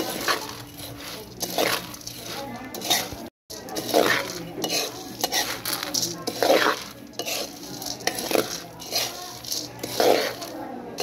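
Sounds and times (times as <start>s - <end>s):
coffee beans rattling in pan: 0.0s - 11.0s
spoon clinking on metal: 0.0s - 11.0s.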